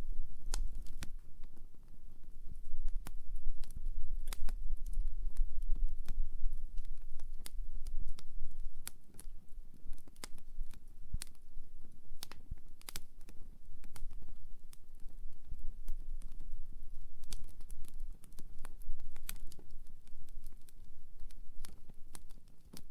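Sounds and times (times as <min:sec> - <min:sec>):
logs crackling and popping: 0:00.0 - 0:22.9
low rumble of flames: 0:00.0 - 0:22.9.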